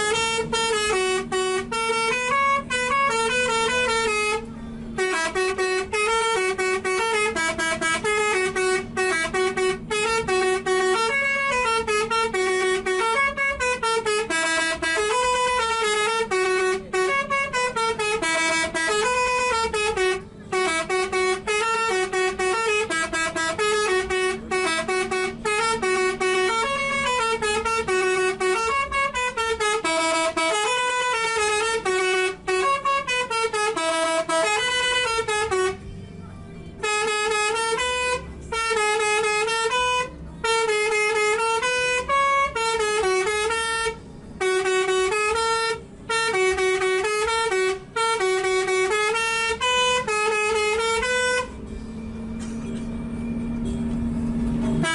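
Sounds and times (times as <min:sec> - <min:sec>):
bus air horns playing a tune: 0:00.0 - 0:36.0, 0:36.8 - 0:54.9.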